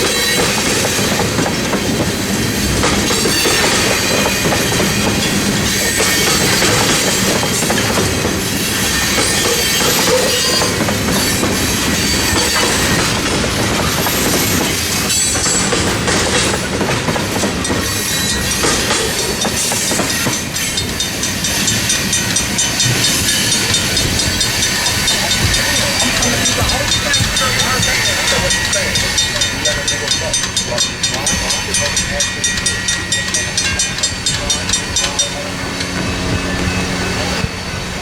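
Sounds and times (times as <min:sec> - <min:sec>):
freight train wheels clacking: 0:00.0 - 0:38.0.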